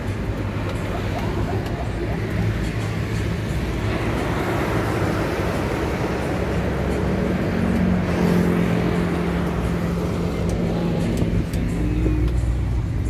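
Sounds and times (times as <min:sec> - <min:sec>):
steady engine hum: 0:00.0 - 0:13.0
vehicle road noise from cabin: 0:00.0 - 0:13.0.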